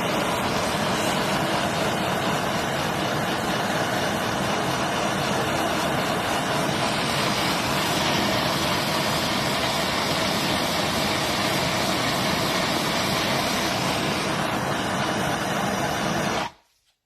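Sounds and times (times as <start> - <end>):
gas torch burning: 0.0 - 16.6.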